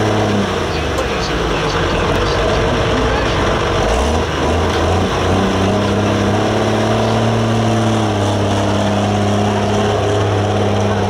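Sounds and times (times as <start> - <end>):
diesel engine running at high revs: 0.0 - 11.0.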